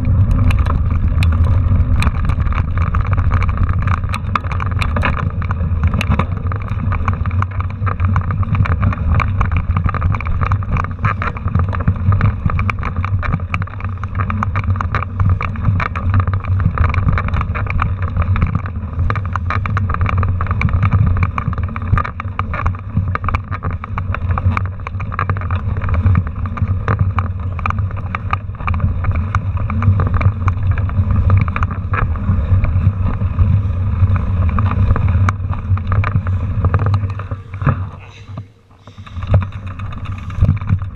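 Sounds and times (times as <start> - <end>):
bike tyre and frame rumble: 0.0 - 40.9
rattling clicks: 0.0 - 40.9
wind on microphone: 0.0 - 40.9.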